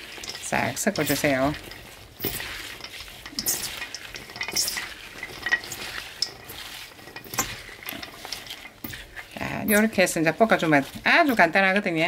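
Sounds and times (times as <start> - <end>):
wet rustling of radish strips: 0.0 - 12.0.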